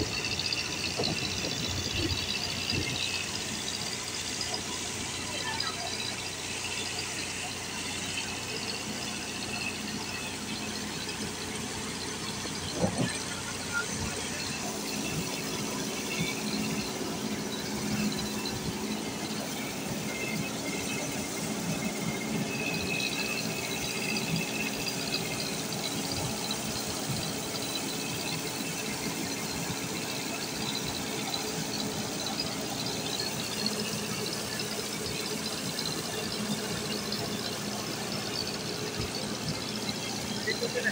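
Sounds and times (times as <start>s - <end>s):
rice mill machine running: 0.0s - 40.9s.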